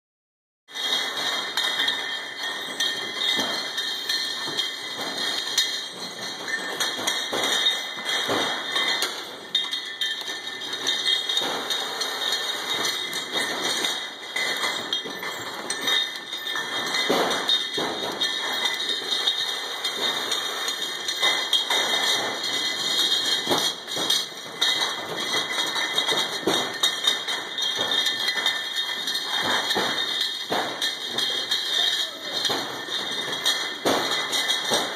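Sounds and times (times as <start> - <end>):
bottles knocking and clinking: 0.7 - 34.9.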